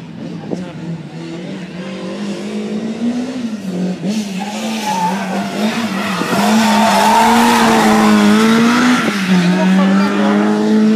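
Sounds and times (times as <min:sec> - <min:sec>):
car engine revving: 0:00.1 - 0:10.9.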